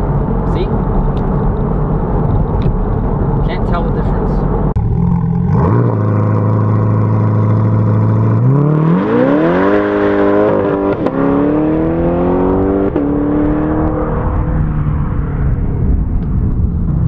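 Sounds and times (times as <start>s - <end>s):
car engine idling and accelerating: 0.0s - 17.0s.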